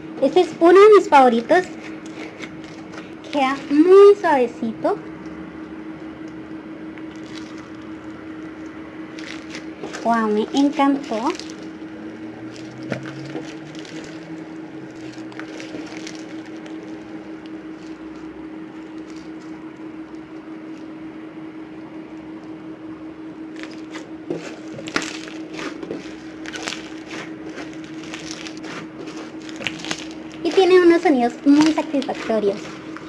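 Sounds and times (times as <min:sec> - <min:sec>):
steady hum: 0:00.0 - 0:33.0
crunchy slime squishing and crackling: 0:00.2 - 0:04.5, 0:06.0 - 0:21.0, 0:23.5 - 0:33.0.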